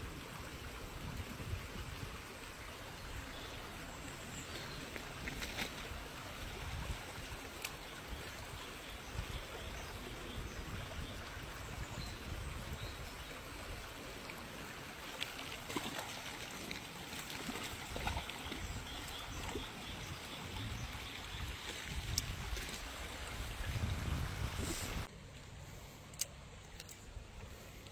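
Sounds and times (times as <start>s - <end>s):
stream running over stones: 0.0s - 25.1s.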